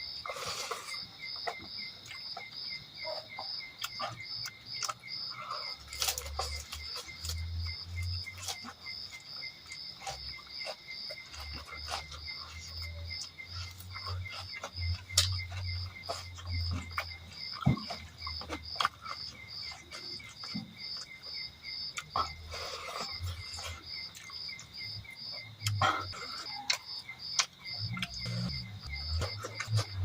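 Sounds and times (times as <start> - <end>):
crickets chirping: 0.0 - 30.0
person eating: 0.2 - 2.6, 3.8 - 21.1, 21.9 - 24.8, 25.6 - 30.0.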